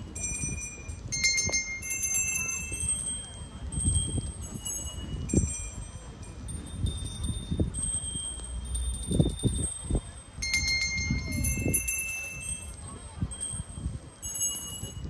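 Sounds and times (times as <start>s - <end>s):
small metal chimes ringing: 0.0s - 15.0s.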